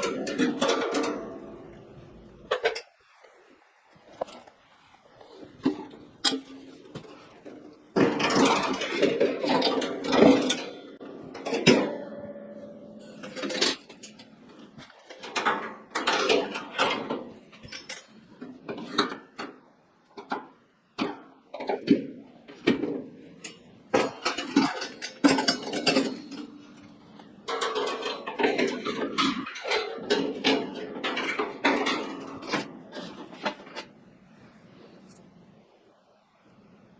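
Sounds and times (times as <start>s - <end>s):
metal parts clanking and rattling: 0.0s - 2.9s, 5.6s - 34.0s.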